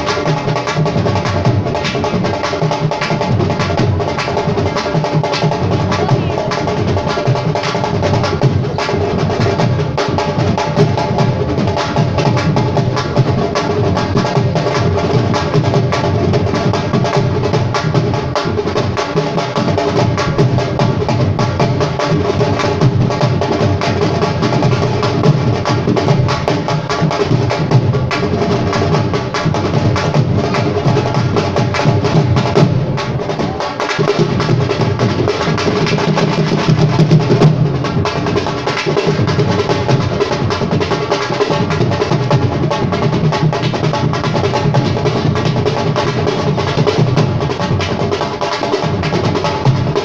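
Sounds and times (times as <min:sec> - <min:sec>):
rapid dense drumming: 0:00.0 - 0:50.0.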